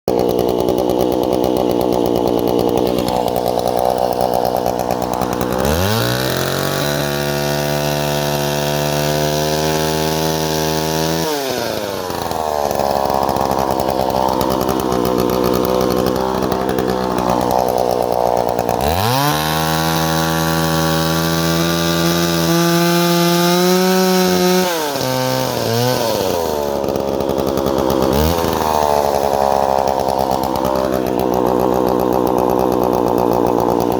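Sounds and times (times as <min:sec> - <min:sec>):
chainsaw engine idling and revving: 0:00.0 - 0:33.9.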